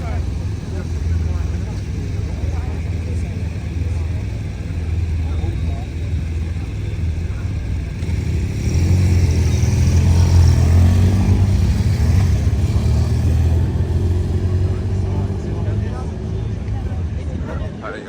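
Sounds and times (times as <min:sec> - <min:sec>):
vehicles driving past: 0:00.0 - 0:18.0.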